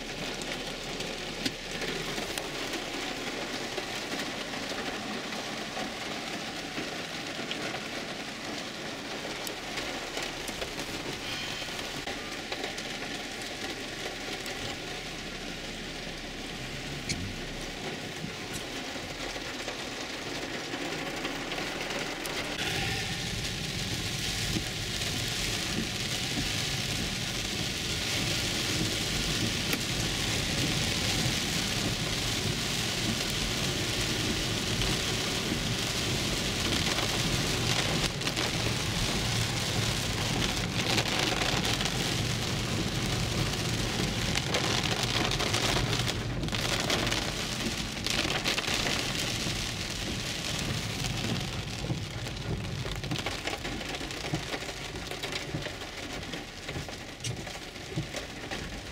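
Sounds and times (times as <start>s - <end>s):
heavy rain on car roof: 0.0s - 58.9s.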